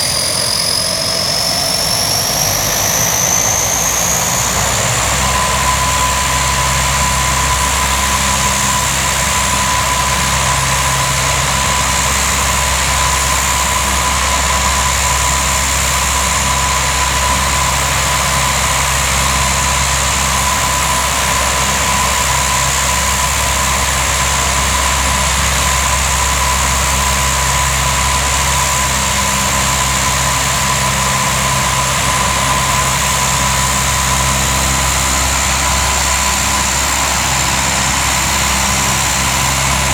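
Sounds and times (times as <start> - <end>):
aircraft turbine whining: 0.0 - 39.9.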